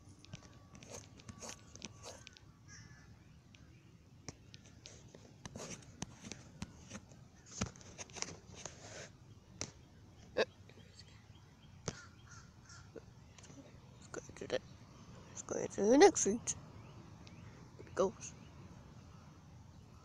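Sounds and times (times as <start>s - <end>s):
distant birds calling: 0.0s - 20.0s.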